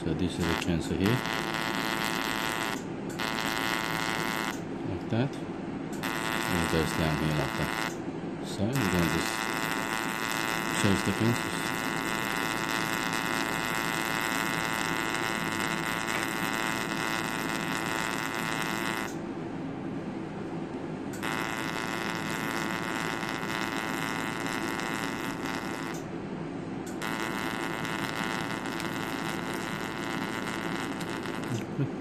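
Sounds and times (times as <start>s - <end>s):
laser equipment electric whine: 0.0s - 19.3s, 21.1s - 26.2s, 26.8s - 32.0s.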